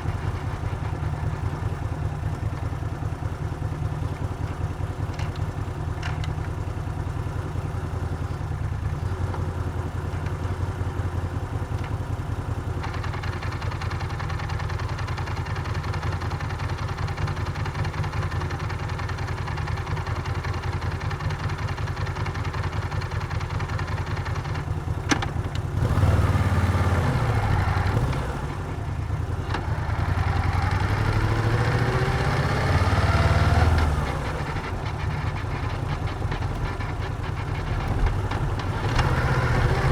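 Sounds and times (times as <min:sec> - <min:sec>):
motorcycle engine idling and accelerating: 0:00.0 - 0:39.9.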